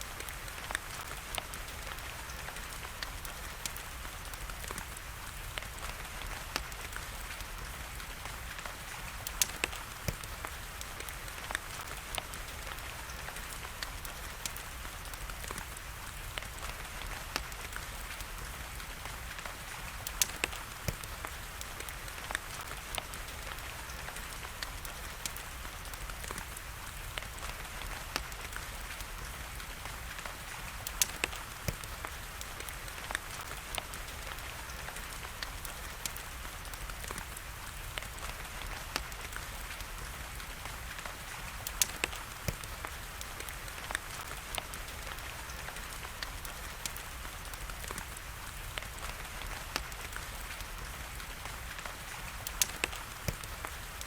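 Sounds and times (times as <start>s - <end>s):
steady rain hiss: 0.0s - 54.0s
wood fire crackling and popping: 0.0s - 54.0s.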